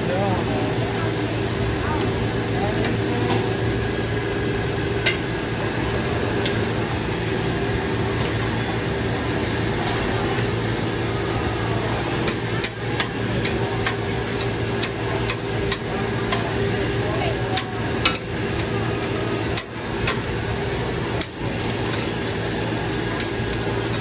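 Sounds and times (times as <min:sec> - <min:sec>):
food sizzling on griddle: 0:00.0 - 0:24.0
steady hum: 0:00.0 - 0:24.0.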